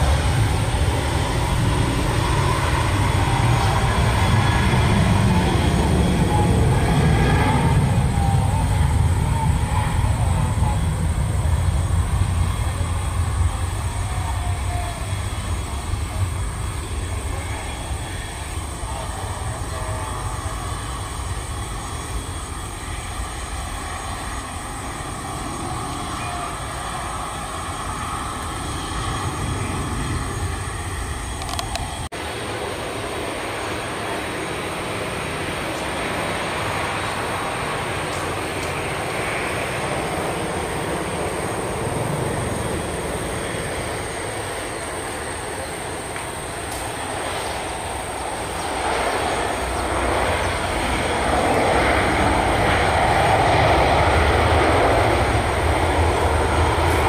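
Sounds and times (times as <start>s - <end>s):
jet engine on approach: 0.0s - 57.0s
jet engines at take-off thrust: 0.0s - 57.0s.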